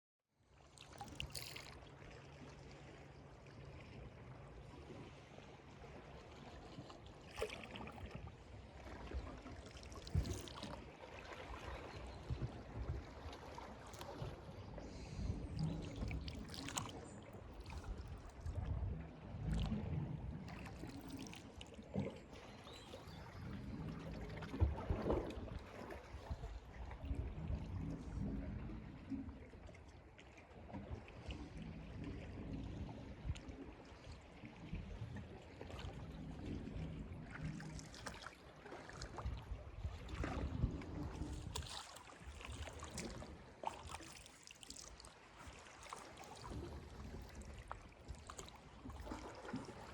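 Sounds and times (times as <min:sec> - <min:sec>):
sea water lapping and splashing: 0:00.4 - 0:49.9.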